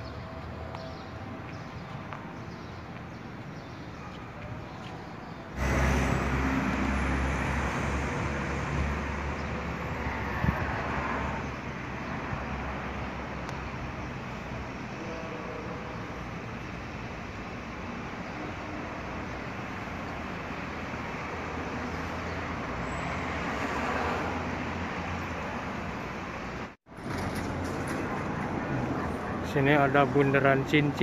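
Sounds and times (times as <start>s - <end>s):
passing cars: 4.4s - 31.0s.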